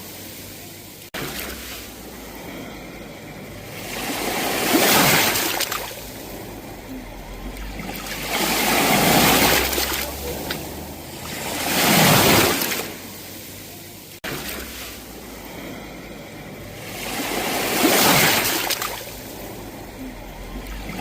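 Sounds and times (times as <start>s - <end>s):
sea waves washing onto shore: 0.0s - 21.0s.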